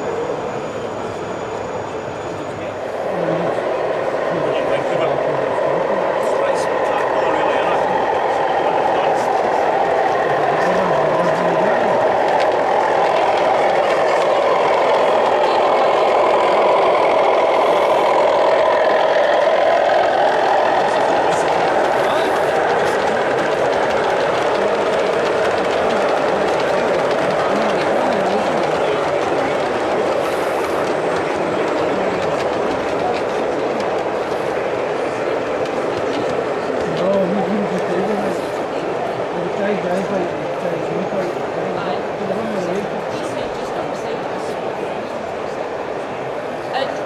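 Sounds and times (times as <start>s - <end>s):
model locomotive engine idling: 0.0s - 47.0s
steady background noise: 0.0s - 47.0s.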